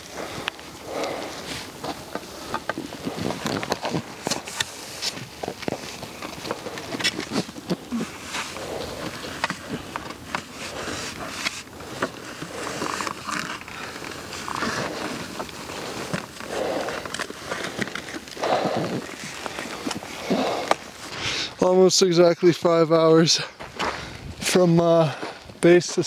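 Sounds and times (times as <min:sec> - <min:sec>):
heavy breathing: 0:00.0 - 0:21.6, 0:23.3 - 0:25.6
boots crunching on scree: 0:00.0 - 0:26.0.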